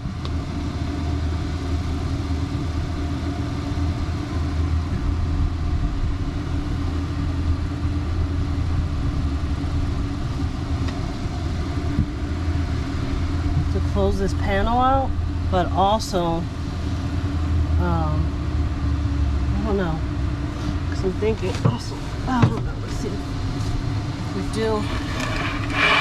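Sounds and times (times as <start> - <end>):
low engine-like hum: 0.0 - 26.0.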